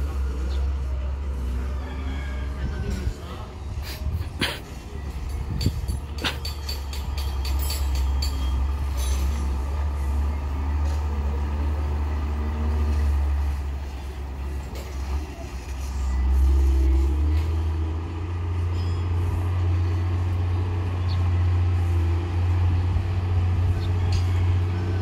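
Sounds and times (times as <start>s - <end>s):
diesel truck engines rumbling: 0.0s - 25.0s.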